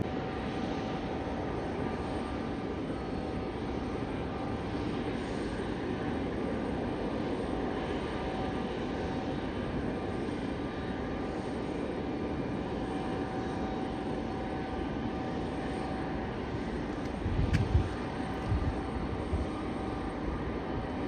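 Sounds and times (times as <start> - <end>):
airliner engines rumbling: 0.0 - 21.0.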